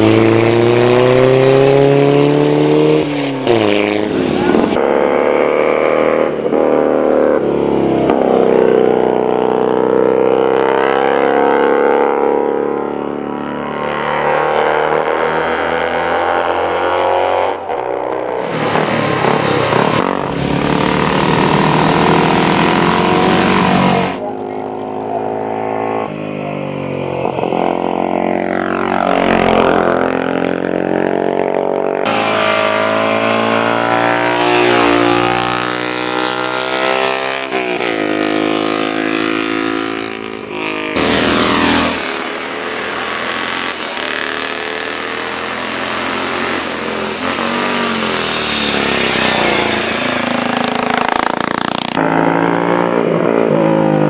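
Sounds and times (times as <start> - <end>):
racing motorcycles revving and passing: 0.0 - 54.0.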